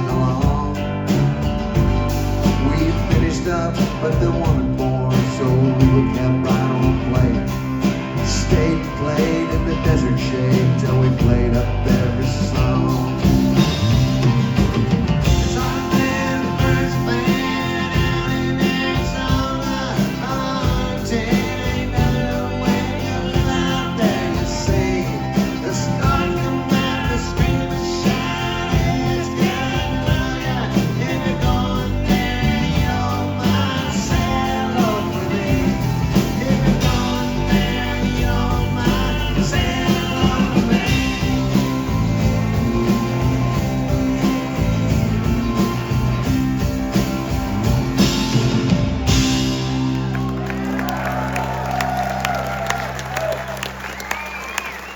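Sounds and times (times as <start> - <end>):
country rock band playing: 0.0 - 54.9
lead guitar: 0.0 - 54.9.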